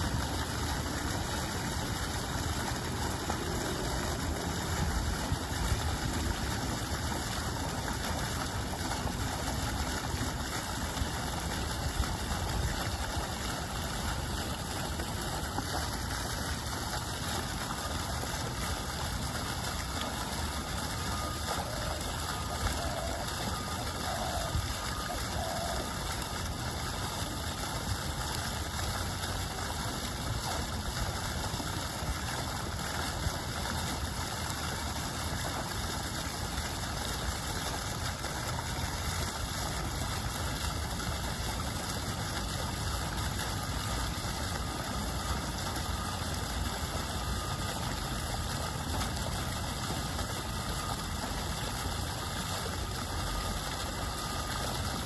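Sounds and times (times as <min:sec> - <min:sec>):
fountain water splashing: 0:00.0 - 0:55.0.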